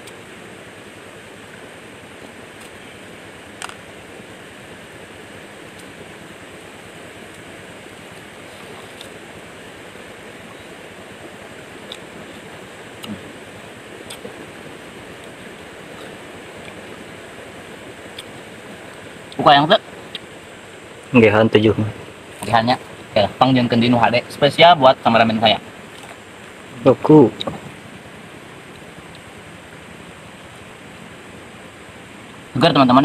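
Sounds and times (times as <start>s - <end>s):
flowing river water: 0.0s - 33.0s.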